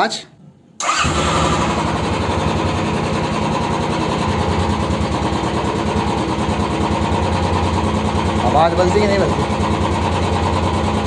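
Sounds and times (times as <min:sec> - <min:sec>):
motorcycle engine idling: 0:00.9 - 0:11.0.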